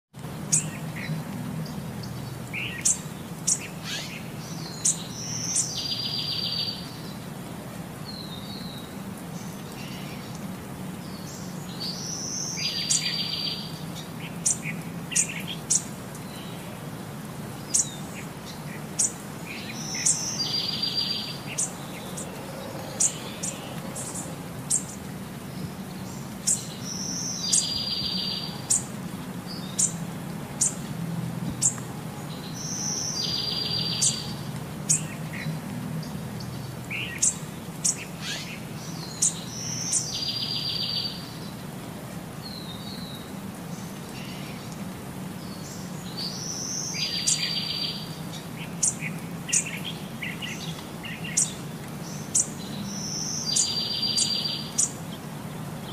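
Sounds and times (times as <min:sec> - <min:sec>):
birds chirping and trilling: 0:00.5 - 0:07.2, 0:11.0 - 0:16.7, 0:17.6 - 0:30.9, 0:31.6 - 0:41.6, 0:42.4 - 0:55.9.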